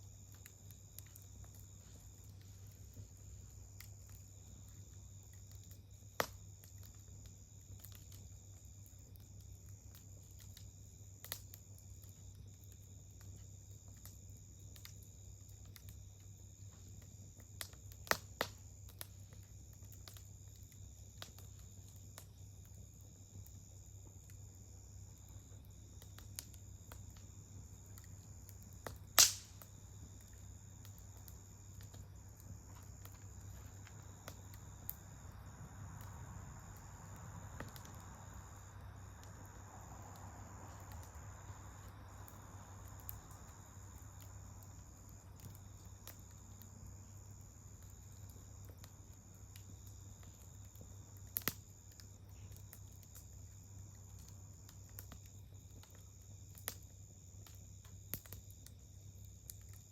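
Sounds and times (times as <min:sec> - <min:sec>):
campfire crackling: 0:00.0 - 0:59.9
fire popping: 0:00.0 - 0:59.9.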